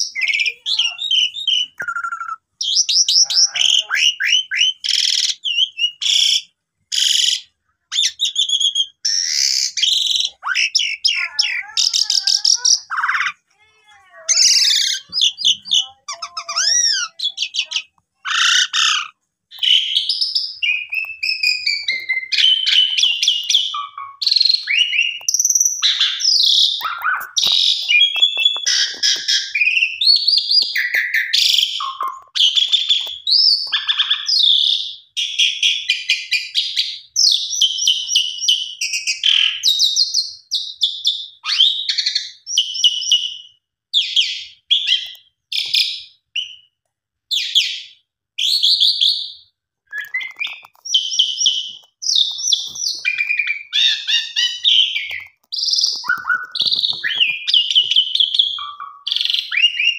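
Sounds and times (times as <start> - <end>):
starling singing: 0.0 - 46.7, 47.4 - 59.9.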